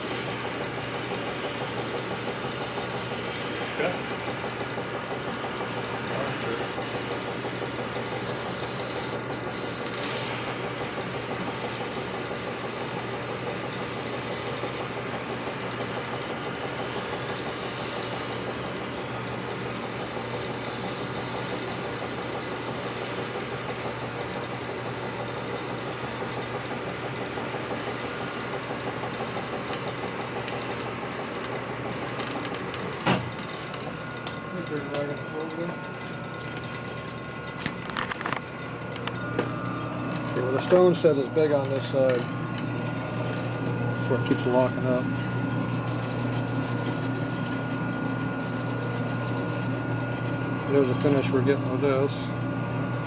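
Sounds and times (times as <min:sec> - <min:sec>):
honing machine running: 0:00.0 - 0:53.0.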